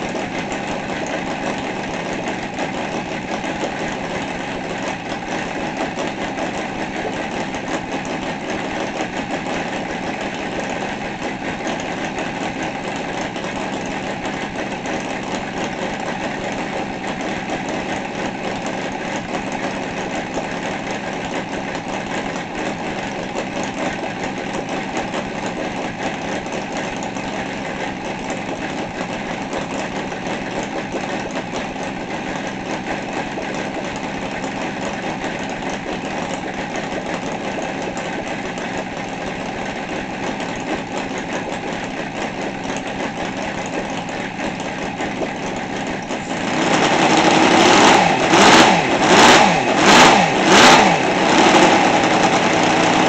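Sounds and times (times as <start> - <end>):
model engine running: 0.0 - 53.0.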